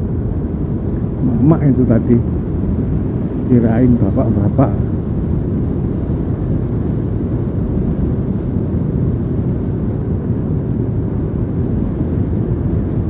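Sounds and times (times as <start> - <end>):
motorcycle rumbling: 0.0 - 13.0.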